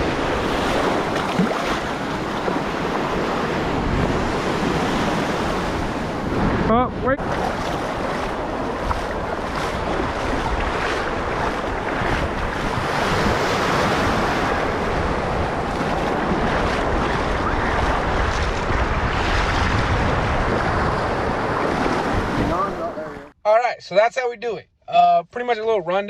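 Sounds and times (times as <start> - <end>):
ocean surf on beach: 0.0 - 23.3
wind buffeting microphone: 0.0 - 23.3.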